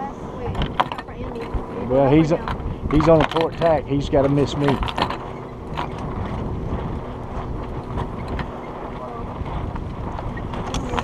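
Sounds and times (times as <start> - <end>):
water against a hull: 0.0 - 11.0
wind buffeting microphone: 0.0 - 11.0.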